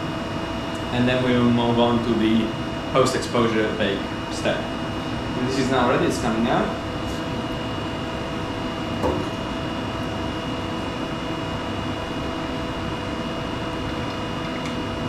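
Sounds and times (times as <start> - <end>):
machine hum: 0.0 - 15.0
ventilation: 0.0 - 15.0.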